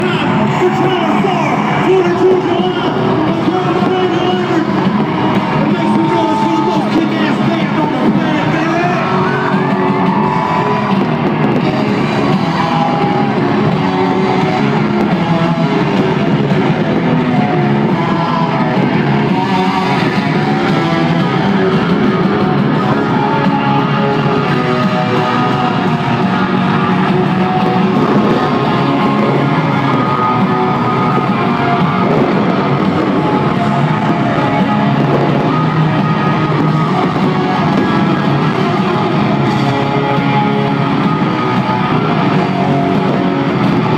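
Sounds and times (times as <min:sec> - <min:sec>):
live country-rock band music: 0:00.0 - 0:43.9.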